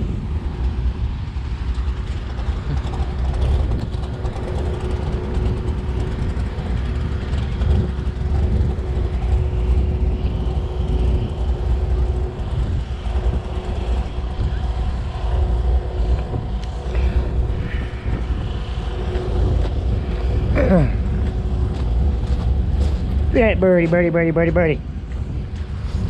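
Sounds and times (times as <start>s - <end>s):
thin steady hum: 0.0s - 26.0s
wind buffeting microphone: 0.0s - 26.0s.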